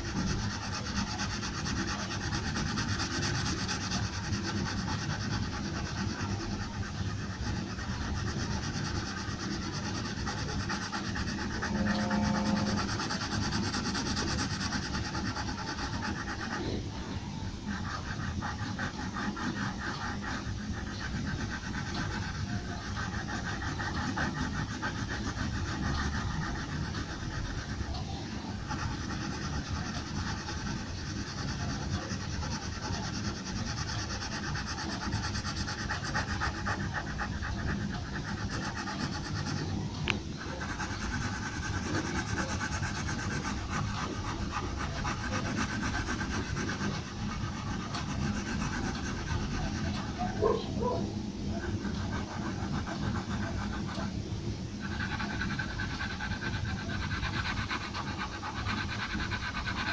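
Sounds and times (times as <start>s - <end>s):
pencil scratching on paper: 0.0s - 59.9s
steady low hum: 0.0s - 59.9s.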